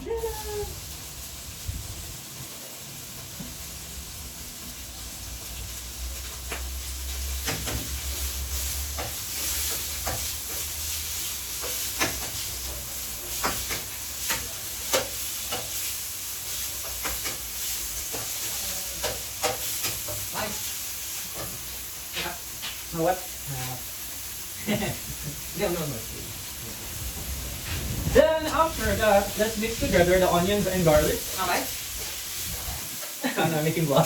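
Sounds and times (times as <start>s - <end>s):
beef sizzling in a pan: 0.0s - 34.0s.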